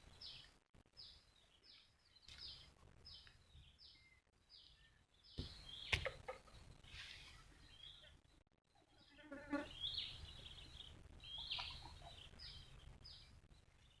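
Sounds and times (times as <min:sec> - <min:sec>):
small bird calling faintly: 0:01.2 - 0:14.0.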